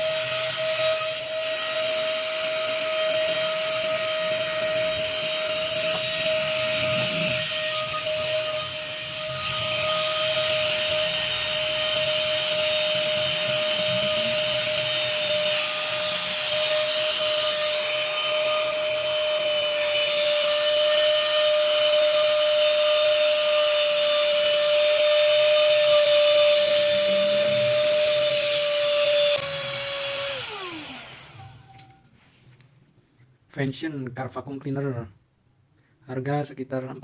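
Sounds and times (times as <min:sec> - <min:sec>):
handheld vacuum cleaner running: 0:00.0 - 0:32.0.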